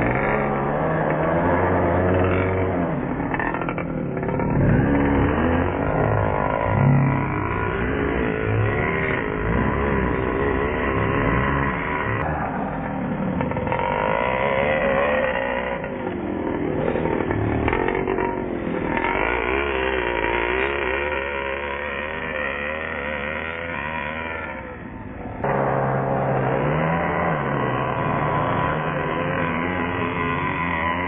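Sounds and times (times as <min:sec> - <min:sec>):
small nitro engine revving: 0:00.0 - 0:31.0.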